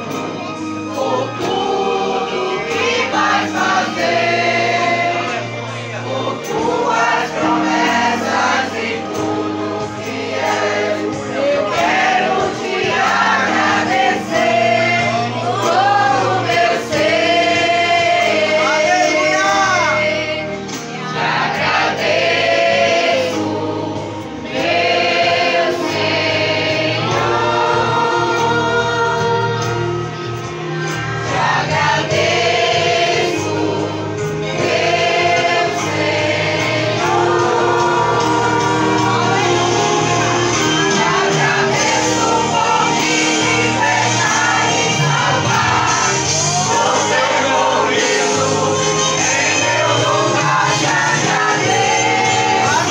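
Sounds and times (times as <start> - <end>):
choir singing a hymn: 0.0 - 52.9
congregation singing: 0.0 - 52.9.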